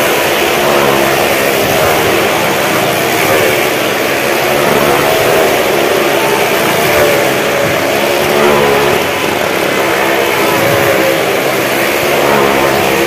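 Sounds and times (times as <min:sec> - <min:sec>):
motorcycle engines droning: 0:00.0 - 0:13.0.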